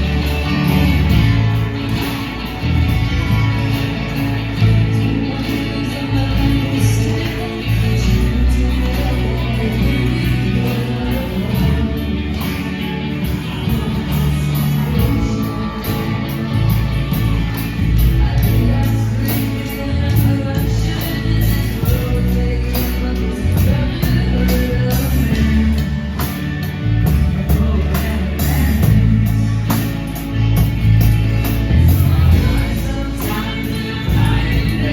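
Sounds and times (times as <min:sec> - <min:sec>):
rock band music with singing: 0:00.0 - 0:34.9.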